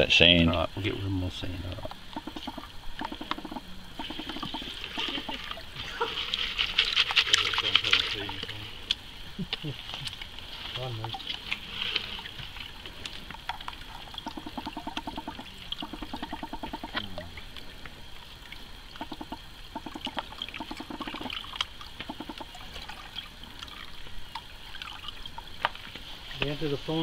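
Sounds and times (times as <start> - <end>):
water sloshing and trickling: 0.0 - 27.0.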